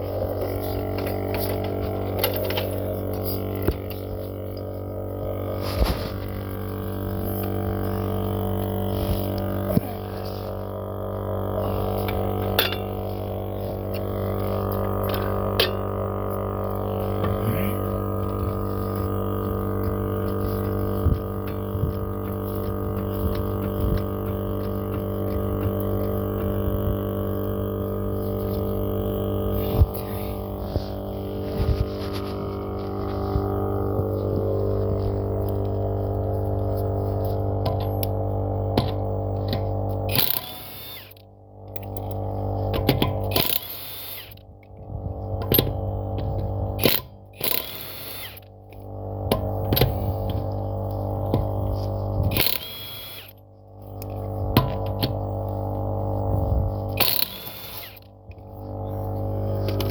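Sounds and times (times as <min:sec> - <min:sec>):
air compressor running: 0:00.0 - 0:59.9
motor drone: 0:00.0 - 0:59.9.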